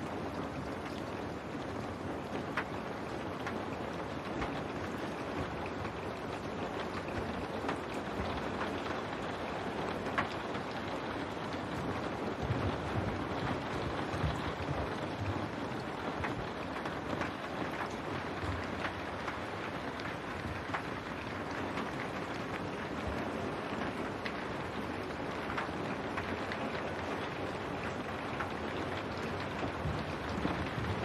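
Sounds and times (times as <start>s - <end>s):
rain on window glass: 0.0s - 31.0s.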